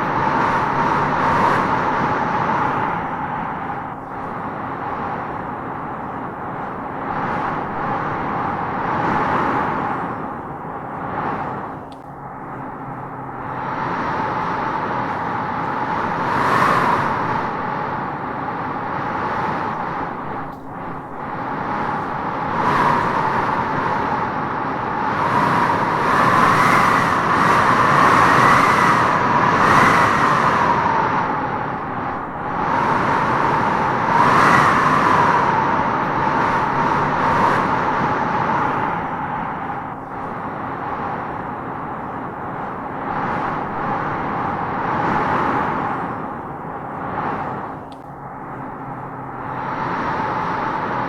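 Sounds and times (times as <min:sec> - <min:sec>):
wind howling through trees: 0:00.0 - 0:51.0.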